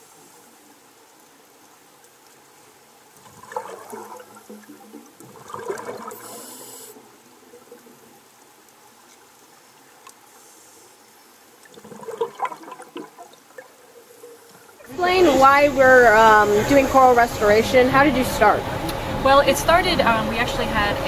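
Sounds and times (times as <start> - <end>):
underwater bubbles gurgling: 0.0 - 19.2.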